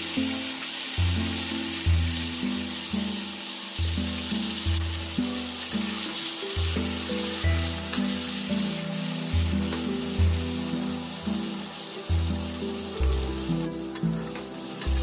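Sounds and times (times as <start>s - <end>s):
background music with bass: 0.0s - 15.0s
eggplant sizzling in oil: 0.0s - 15.0s.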